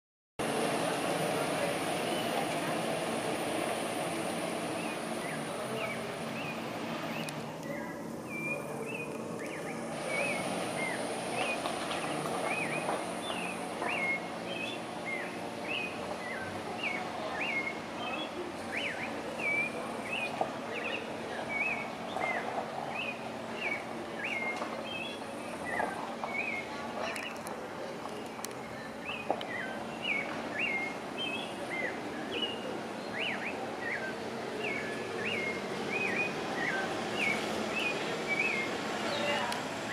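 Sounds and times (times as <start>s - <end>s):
low background noise: 0.4s - 39.9s
bird chirping: 4.8s - 27.4s, 28.6s - 39.9s.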